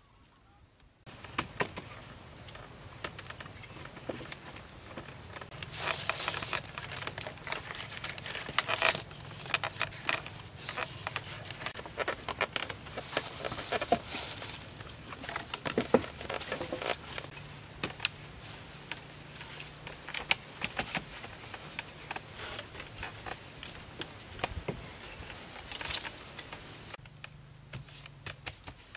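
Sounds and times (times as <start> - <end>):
rustling: 1.0 - 28.9
bamboo poles knocking together: 1.1 - 28.9.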